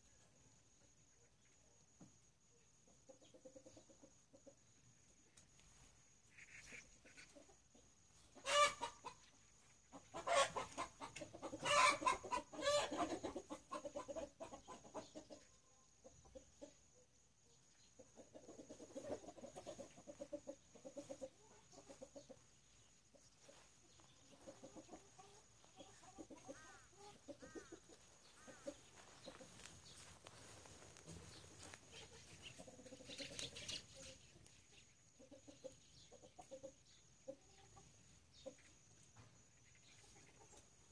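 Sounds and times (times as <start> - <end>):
chickens clucking: 0.3 - 40.9.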